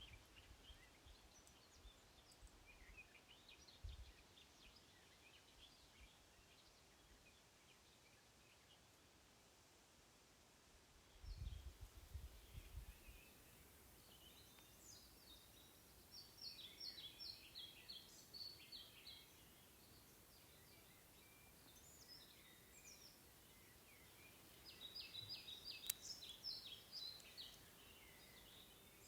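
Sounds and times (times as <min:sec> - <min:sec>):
songbird chirping: 0:00.0 - 0:09.2, 0:11.0 - 0:29.0
faint steady background noise: 0:00.0 - 0:29.0.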